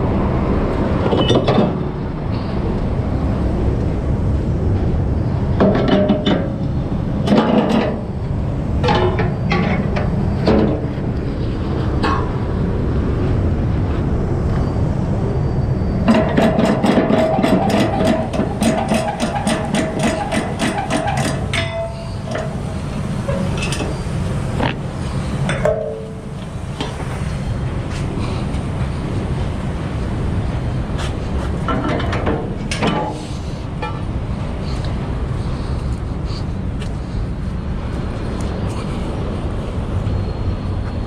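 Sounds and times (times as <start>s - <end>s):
truck engine rumbling: 0.0s - 40.6s.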